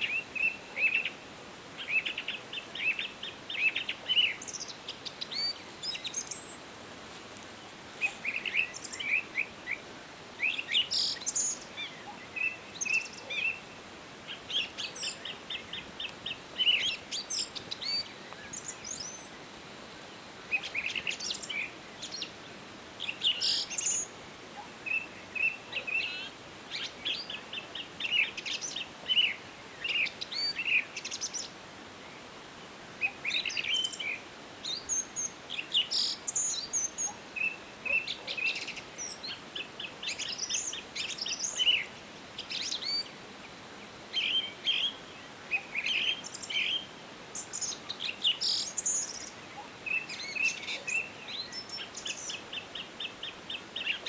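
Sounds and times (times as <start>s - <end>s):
faint background hiss: 0.0s - 54.0s
songbirds singing and trilling: 0.0s - 54.0s.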